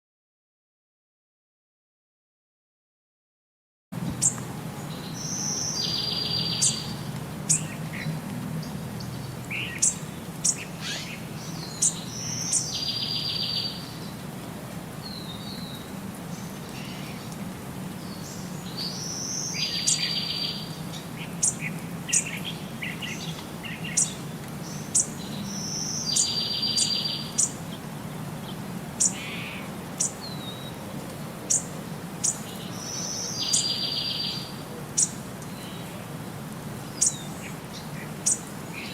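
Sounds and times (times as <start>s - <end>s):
birds chirping: 4.1s - 14.4s, 15.0s - 36.2s, 36.8s - 38.9s.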